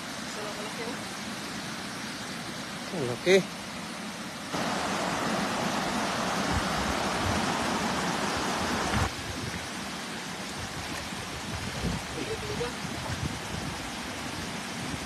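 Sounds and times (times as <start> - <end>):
water rushing over weir: 0.0 - 15.0.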